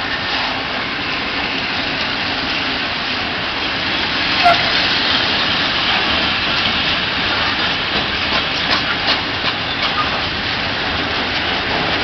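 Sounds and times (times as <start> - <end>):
freight train wheels rumbling on rails: 0.0 - 12.0.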